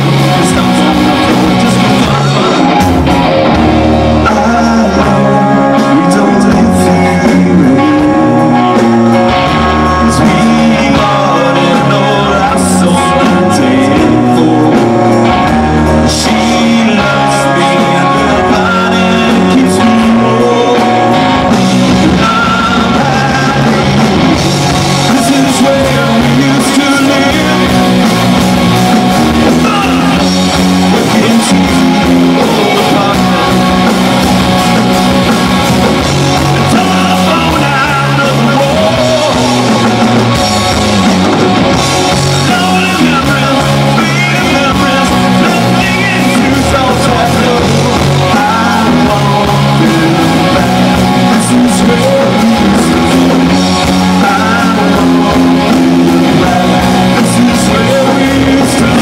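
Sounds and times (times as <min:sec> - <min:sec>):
live rock band playing: 0:00.0 - 0:59.0
man singing lead: 0:00.0 - 0:59.0.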